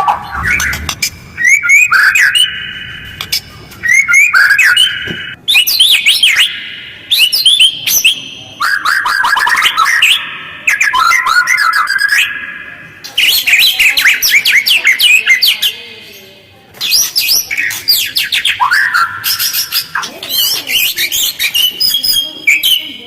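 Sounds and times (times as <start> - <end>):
bird chattering song: 0.0 - 16.2, 16.8 - 23.0.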